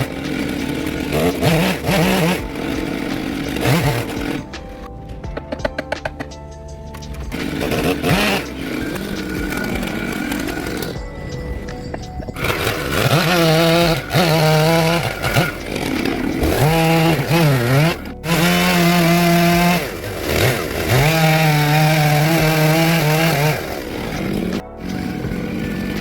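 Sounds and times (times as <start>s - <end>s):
chainsaw carving wood: 0.0s - 4.8s, 7.3s - 11.0s, 12.3s - 26.0s.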